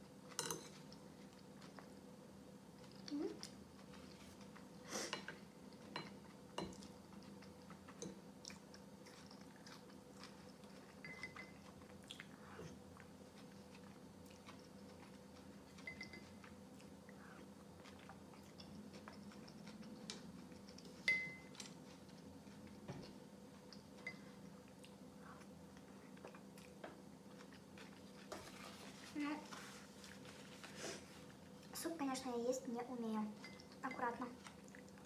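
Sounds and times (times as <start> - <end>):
quiet chewing: 0.2 - 31.9, 33.4 - 35.0.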